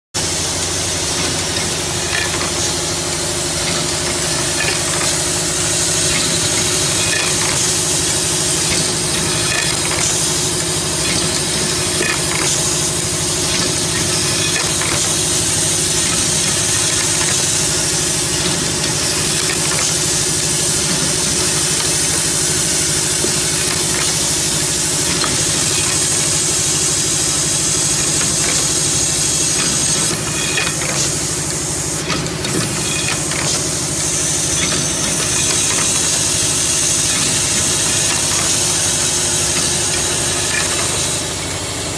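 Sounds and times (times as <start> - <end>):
machine humming and hissing: 0.2 - 41.9.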